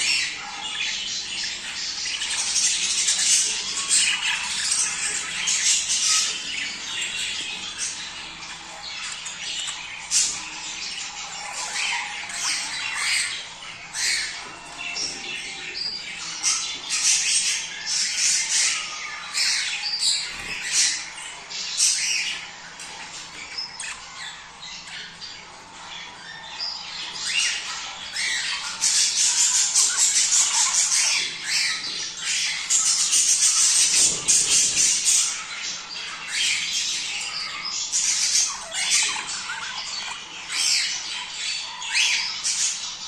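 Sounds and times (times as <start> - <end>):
budgies chattering and squawking: 0.0 - 43.0.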